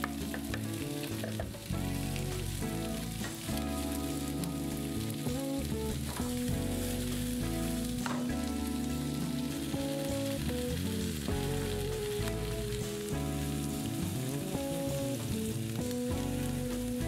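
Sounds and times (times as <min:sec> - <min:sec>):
background music: 0:00.0 - 0:17.0
vegetables sizzling in a pan: 0:00.0 - 0:17.0.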